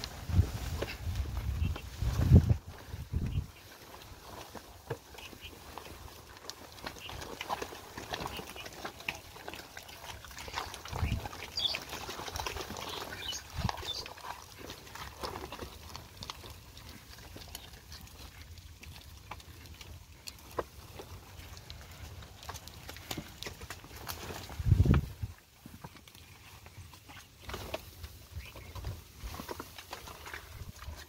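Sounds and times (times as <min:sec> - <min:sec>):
hooves and wheels knocking in mud: 0:00.0 - 0:31.0.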